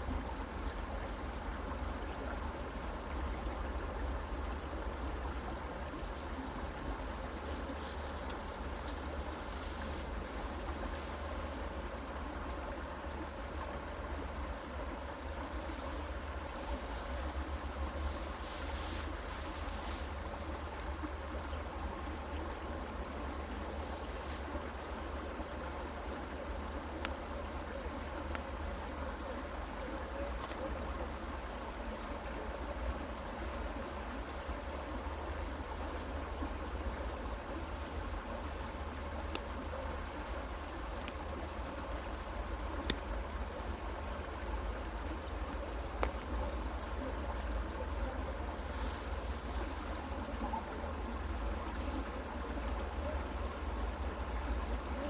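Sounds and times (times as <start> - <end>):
creek running over stones: 0.0 - 55.0.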